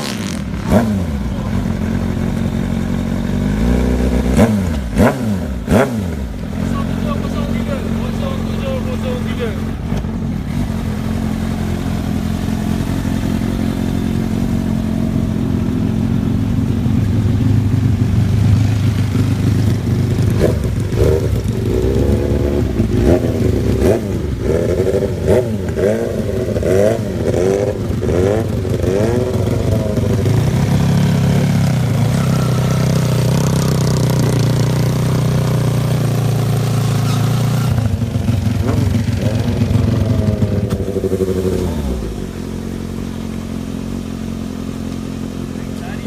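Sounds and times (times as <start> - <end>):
motorbike engine idling and revving: 0.0 - 46.0.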